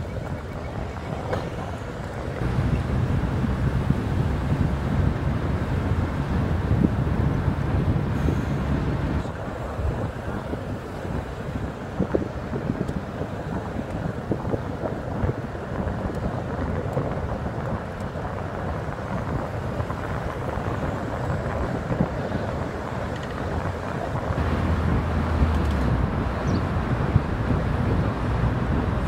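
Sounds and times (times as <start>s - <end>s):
road rumble: 0.0s - 29.0s
wind rushing over microphone: 0.0s - 29.0s.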